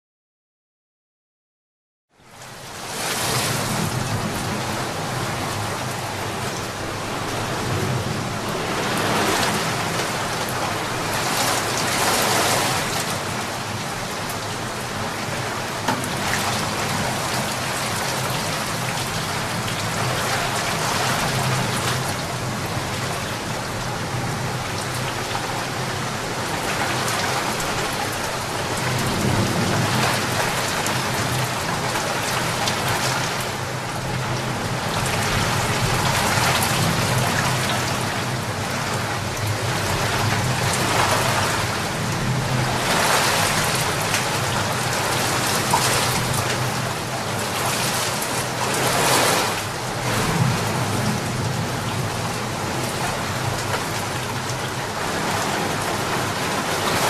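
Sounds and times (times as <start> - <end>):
heavy rain pouring: 2.2 - 57.0.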